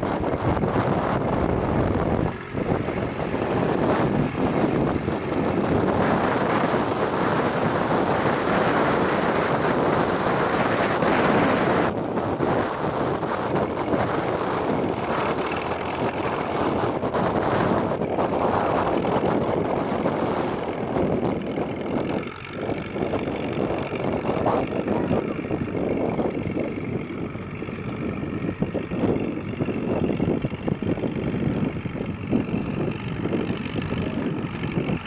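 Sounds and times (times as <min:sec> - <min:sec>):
tractor engine droning: 0:00.0 - 0:35.0.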